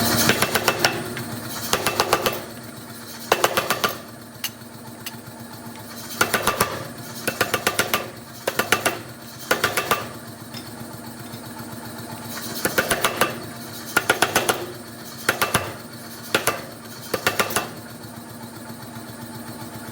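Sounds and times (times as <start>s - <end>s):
hammer striking steel: 0.1s - 11.4s, 12.6s - 17.8s.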